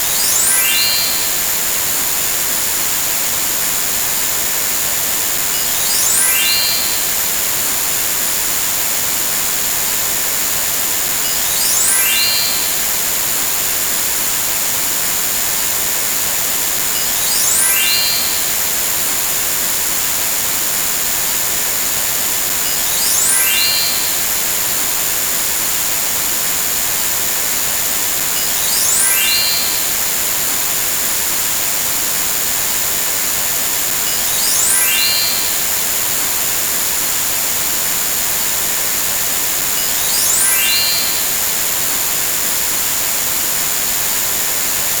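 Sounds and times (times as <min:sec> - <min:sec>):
constant high tone: 0:00.0 - 0:45.0.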